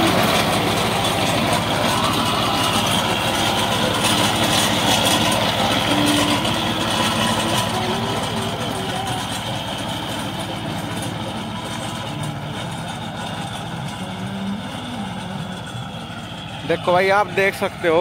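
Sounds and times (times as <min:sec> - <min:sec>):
implement cutting stubble and soil: 0:00.0 - 0:18.0
tractor diesel engine running: 0:00.0 - 0:18.0.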